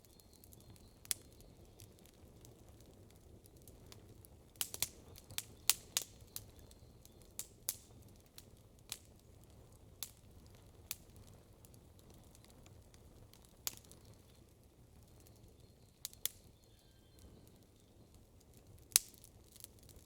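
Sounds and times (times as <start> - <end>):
campfire crackling pops: 0.0 - 16.6, 17.2 - 20.0.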